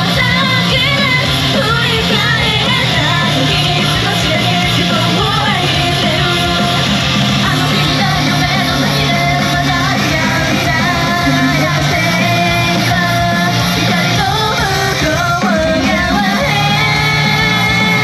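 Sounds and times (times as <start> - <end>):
female vocals: 0.0 - 18.0
rock band backing track: 0.0 - 18.0.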